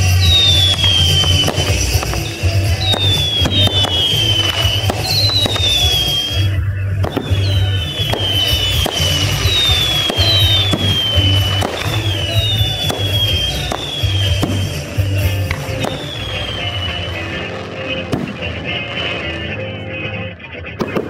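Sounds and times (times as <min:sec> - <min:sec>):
falling firework whistle: 0:00.0 - 0:19.6
fireworks bursting and crackling: 0:00.0 - 0:21.0.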